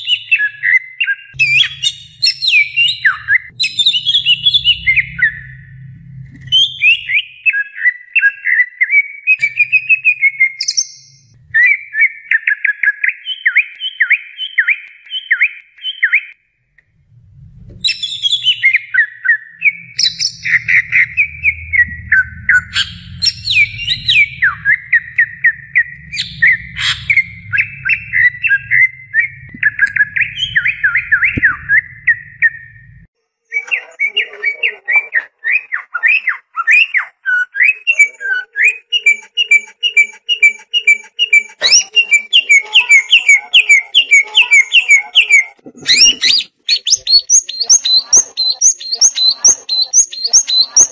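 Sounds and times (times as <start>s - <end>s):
bird chattering song: 0.0s - 5.7s, 6.4s - 16.4s, 17.8s - 32.8s, 33.5s - 50.9s.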